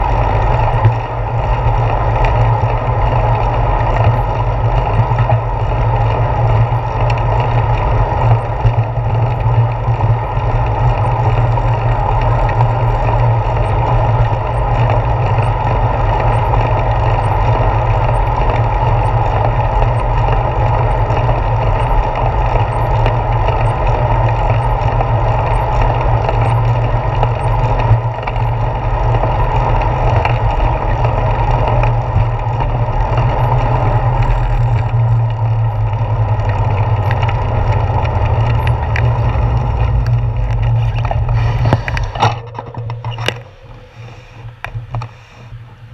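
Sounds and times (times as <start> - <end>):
road rumble from moving bicycle: 0.0 - 45.9.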